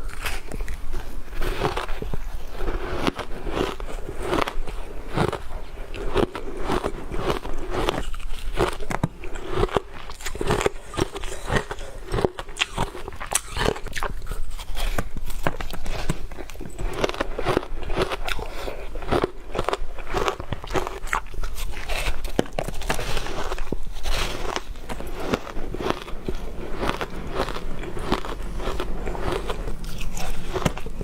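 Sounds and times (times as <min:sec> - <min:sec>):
ice being chewed: 0:00.0 - 0:31.0.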